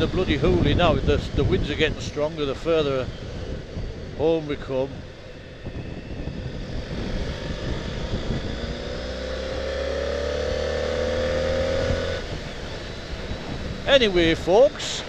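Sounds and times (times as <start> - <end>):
motorcycle engine accelerating: 0.0 - 15.0
wind buffeting microphone: 0.0 - 15.0.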